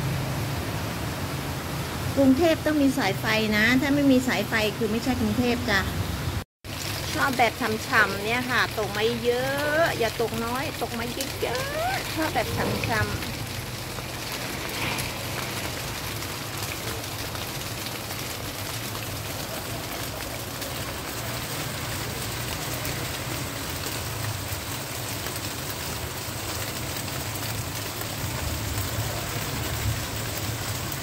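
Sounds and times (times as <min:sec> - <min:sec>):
rain on leaves and roofs: 0:00.0 - 0:31.0.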